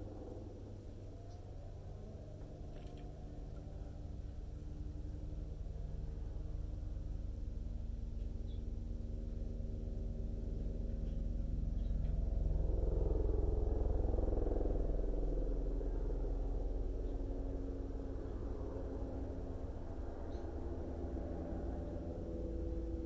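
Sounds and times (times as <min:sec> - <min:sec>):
distant low rumble: 0:00.0 - 0:23.0
steady low hum: 0:00.0 - 0:23.0.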